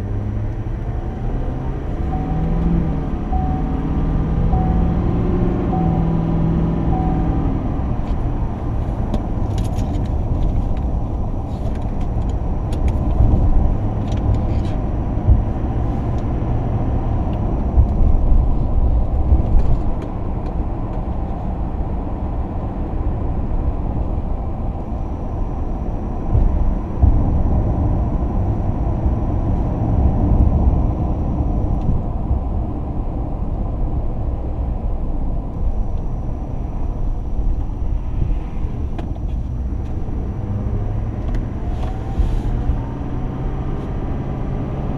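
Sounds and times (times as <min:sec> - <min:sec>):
truck engine and tyre rumble: 0:00.0 - 0:44.9.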